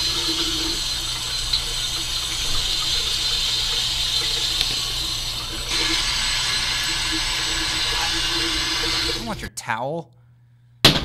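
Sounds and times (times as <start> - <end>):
running water: 0.0 - 9.5.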